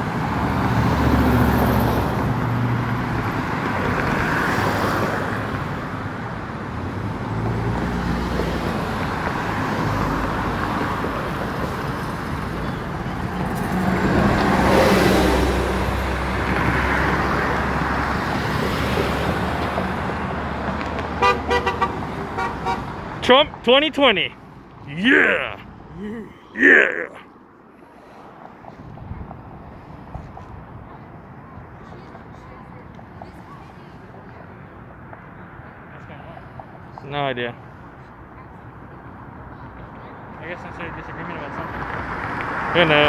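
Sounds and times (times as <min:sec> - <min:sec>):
cars passing by: 0:00.0 - 0:43.0.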